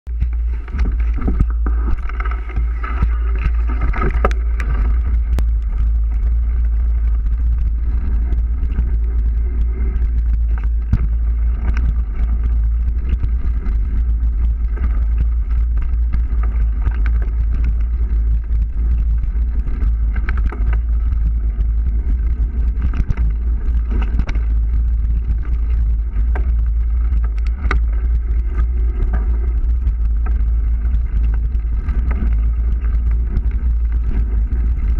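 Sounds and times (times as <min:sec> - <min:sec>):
bike tyre noise: 0:00.0 - 0:34.9
wind rumble on microphone: 0:00.0 - 0:34.9.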